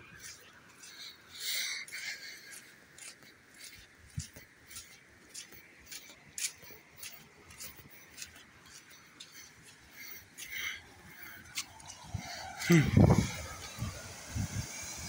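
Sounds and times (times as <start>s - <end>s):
footsteps on dirt and stone: 0.0s - 13.0s.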